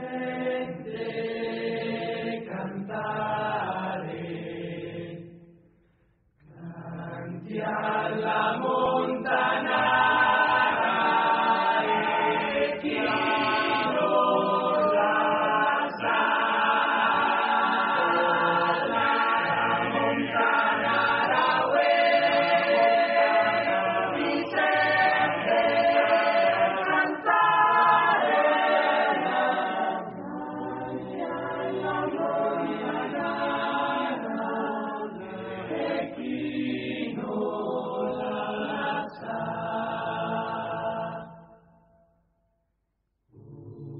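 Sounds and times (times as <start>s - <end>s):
choir singing harmonised chords: 0.0s - 42.3s, 43.3s - 43.9s.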